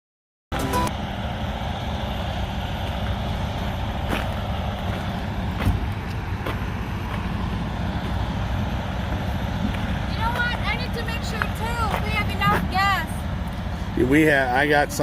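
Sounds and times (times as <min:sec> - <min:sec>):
diesel truck engine rumbling: 0:00.5 - 0:15.0.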